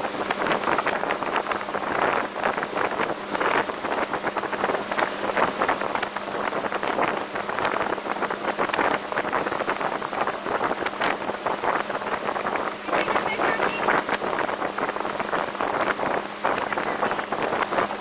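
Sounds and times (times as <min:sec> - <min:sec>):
boat engine hum: 0:00.0 - 0:18.0
water rushing off boat: 0:00.0 - 0:18.0
wind buffeting microphone: 0:00.0 - 0:18.0.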